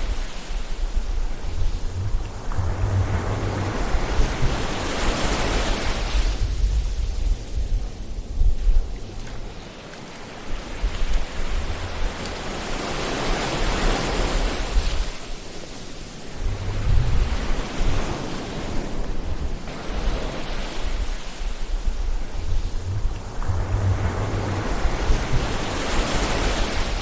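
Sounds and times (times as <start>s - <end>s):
ocean waves washing in: 0.0s - 27.0s.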